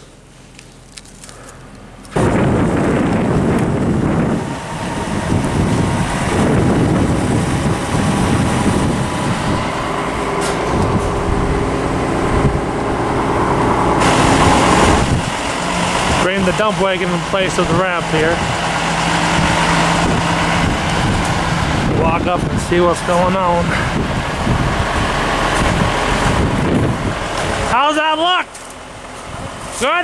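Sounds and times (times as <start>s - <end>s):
tractor diesel engine running: 0.0s - 30.0s
wind rumbling on microphone: 1.9s - 27.8s, 28.8s - 29.8s.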